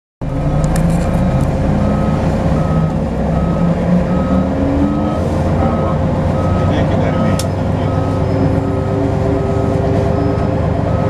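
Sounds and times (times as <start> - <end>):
bus engine humming: 0.2 - 11.0
electronic warning beeper: 1.8 - 11.0.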